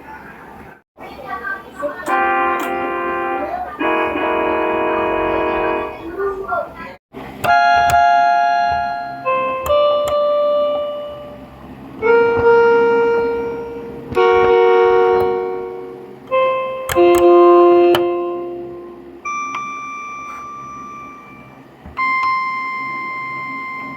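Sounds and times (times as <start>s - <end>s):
piano chords on keyboard: 2.0s - 6.5s, 7.4s - 23.9s.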